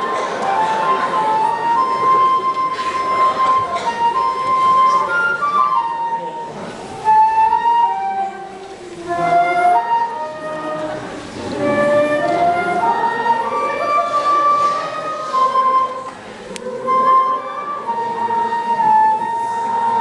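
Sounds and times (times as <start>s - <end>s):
flute melody: 0.0s - 20.0s.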